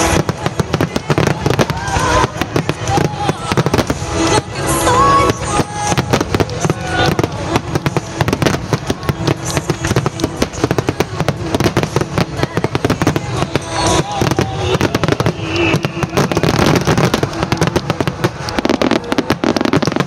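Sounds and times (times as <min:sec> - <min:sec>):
fireworks launching and bursting: 0:00.0 - 0:20.0
music playing: 0:00.0 - 0:20.0.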